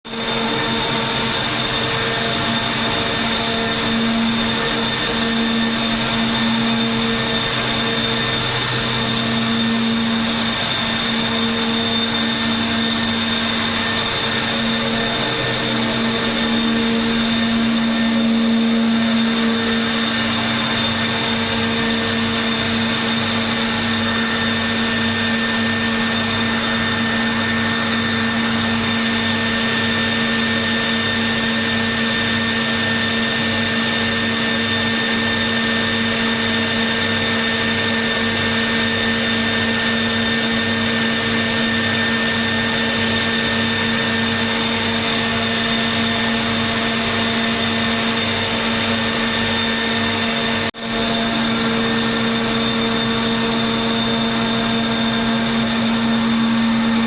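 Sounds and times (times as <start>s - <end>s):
chiller machine hum: 0.0s - 57.0s.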